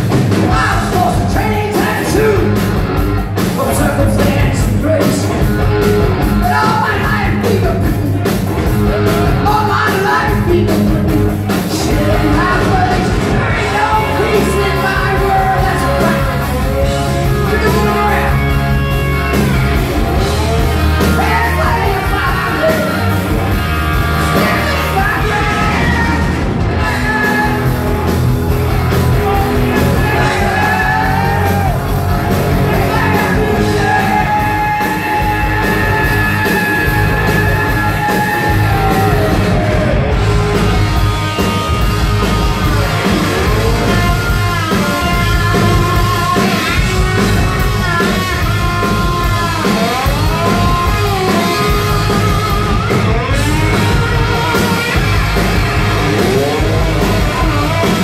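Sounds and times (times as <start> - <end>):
shouted raspy lead vocal: 0.0 - 8.3, 8.9 - 58.0
hard rock band playing live: 0.0 - 58.0.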